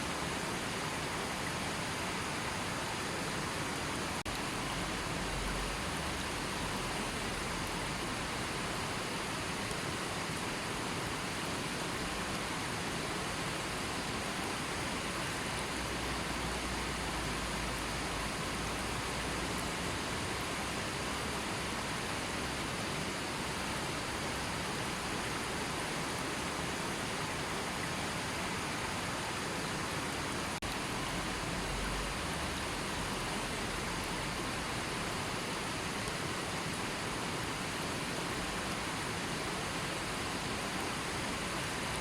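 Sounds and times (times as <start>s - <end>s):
river flowing: 0.0s - 42.0s.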